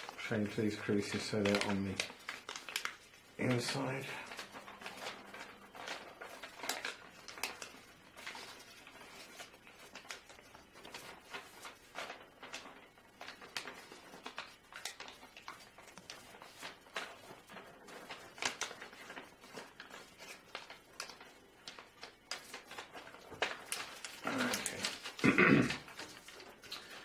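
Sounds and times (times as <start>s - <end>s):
paper rustling and crinkling: 0.0s - 27.0s.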